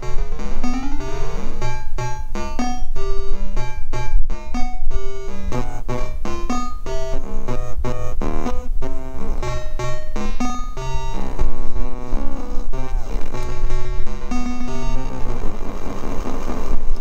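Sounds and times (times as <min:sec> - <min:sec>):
electronic keyboard melody with echoes: 0:00.0 - 0:16.2.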